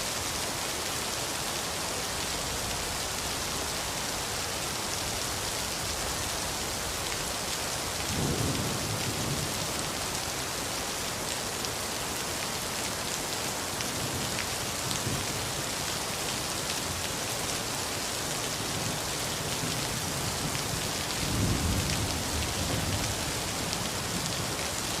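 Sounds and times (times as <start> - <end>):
rain falling on a street: 0.0 - 25.0.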